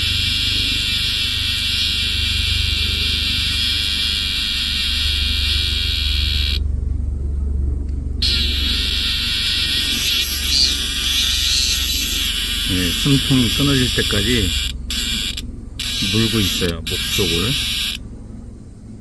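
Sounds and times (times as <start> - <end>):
cicadas buzzing: 0.0 - 6.7, 8.2 - 19.0
low hum: 0.0 - 19.0.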